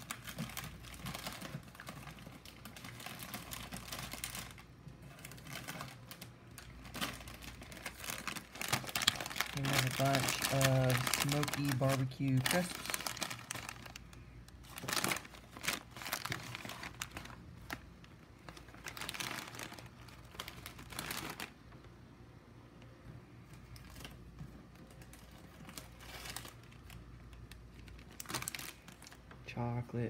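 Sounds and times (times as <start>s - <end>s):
plastic snack bags crinkling: 0.0s - 21.8s, 23.7s - 29.4s.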